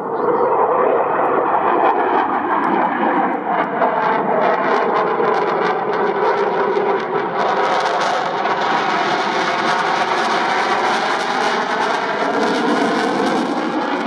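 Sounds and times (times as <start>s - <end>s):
jet engines roaring with crackle: 0.0s - 14.0s.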